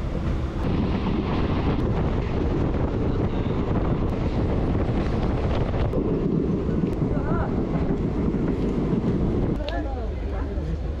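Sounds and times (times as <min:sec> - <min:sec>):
train running noise: 0:00.0 - 0:11.0
wind buffeting microphone: 0:00.0 - 0:11.0.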